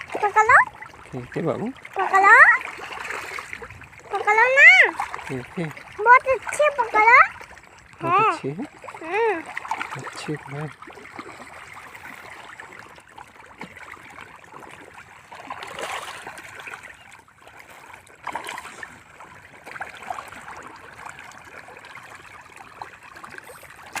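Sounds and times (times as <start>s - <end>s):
water flowing and trickling: 0.0s - 24.0s
water splashing: 0.0s - 24.0s.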